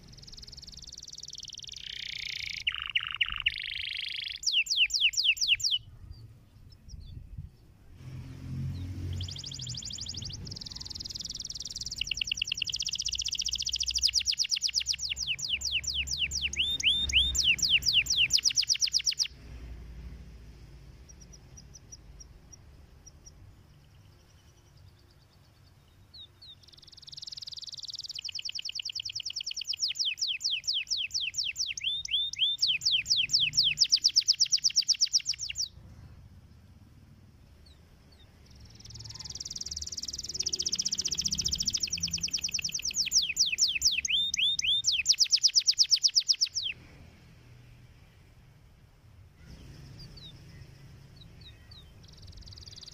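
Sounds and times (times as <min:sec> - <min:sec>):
canary singing trills: 0:00.0 - 0:07.7, 0:08.7 - 0:35.9, 0:37.4 - 0:46.8, 0:49.4 - 0:52.9
soft bird chirps: 0:00.0 - 0:47.1, 0:49.1 - 0:52.9.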